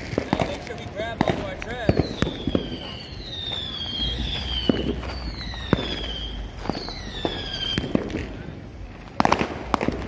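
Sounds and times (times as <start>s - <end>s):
firework whistles falling in pitch: 0.0s - 8.6s
firework bangs: 0.0s - 10.0s.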